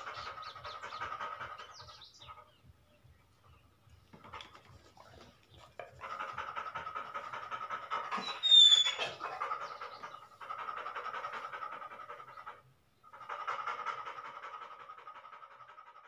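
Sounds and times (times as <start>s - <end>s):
dog panting rapidly: 0.0s - 16.0s.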